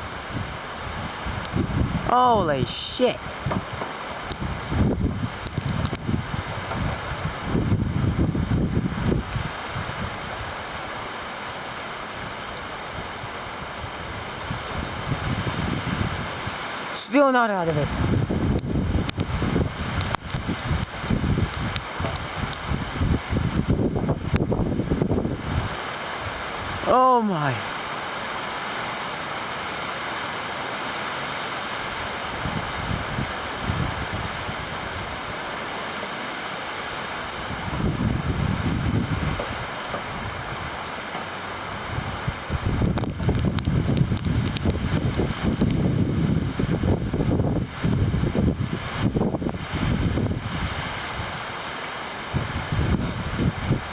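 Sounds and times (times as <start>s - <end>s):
wind buffeting microphone: 0.0s - 2.1s, 3.2s - 10.9s, 12.2s - 16.7s, 17.7s - 26.8s, 31.8s - 35.4s, 37.0s - 41.0s, 41.6s - 53.9s
heavy rain pouring: 0.0s - 53.9s.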